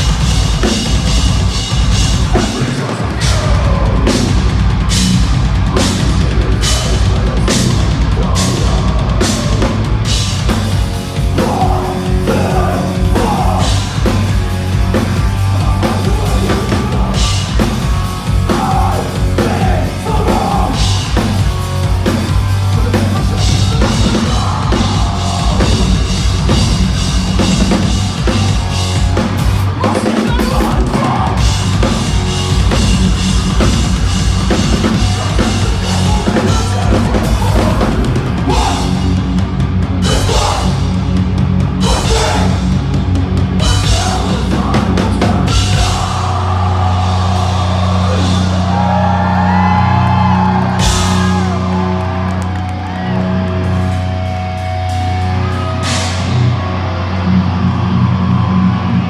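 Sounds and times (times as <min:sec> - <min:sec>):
heavy rock drums: 0:00.0 - 0:59.0
metalcore band playing live: 0:00.0 - 0:59.0.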